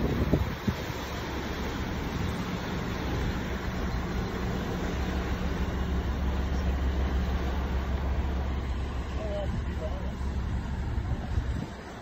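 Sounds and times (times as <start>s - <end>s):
boat engine humming: 0.0s - 12.0s
rushing water: 0.0s - 12.0s
wind: 0.0s - 12.0s.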